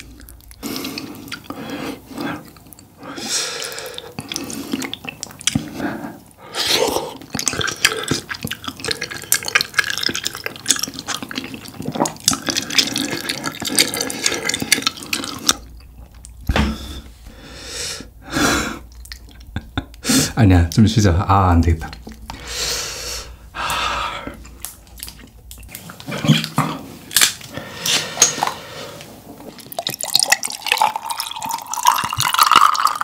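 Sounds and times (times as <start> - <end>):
slurping and chewing noodles: 0.0 - 16.5, 21.9 - 33.0.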